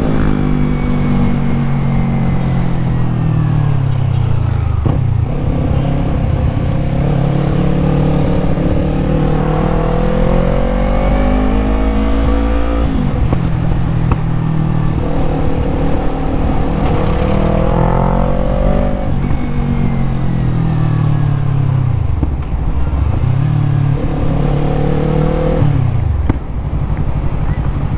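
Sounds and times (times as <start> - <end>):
motorcycle engine revving through gears: 0.0 - 27.3.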